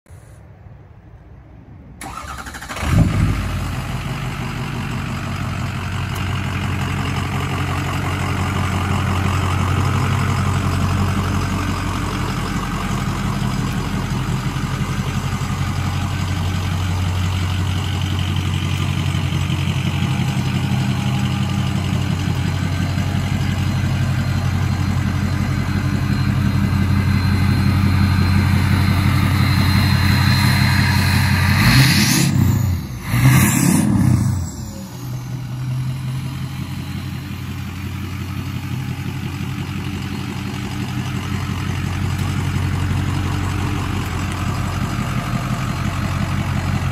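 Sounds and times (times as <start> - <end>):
diesel engine starting and idling: 0.1 - 46.9.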